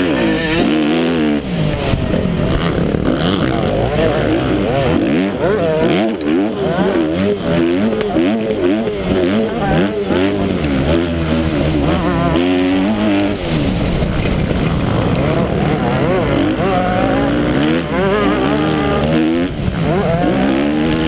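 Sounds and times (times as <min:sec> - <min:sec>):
motocross bike engine revving: 0:00.0 - 0:21.0.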